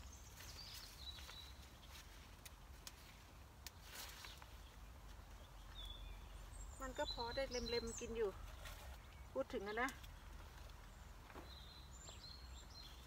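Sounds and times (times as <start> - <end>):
leaves rustling: 0.0 - 13.0.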